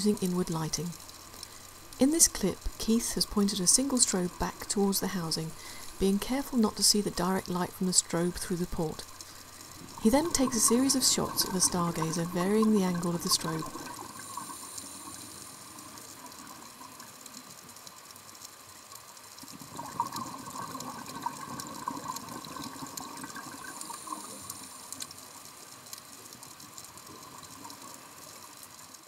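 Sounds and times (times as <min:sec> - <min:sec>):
faint steady crackle: 0:00.0 - 0:29.0.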